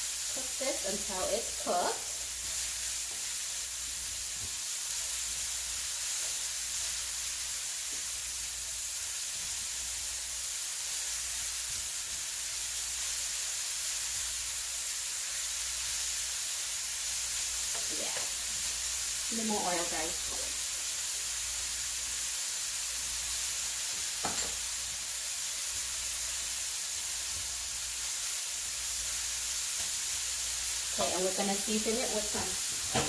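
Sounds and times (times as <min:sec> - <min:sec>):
cauliflower sizzling in hot oil: 0:00.0 - 0:33.0.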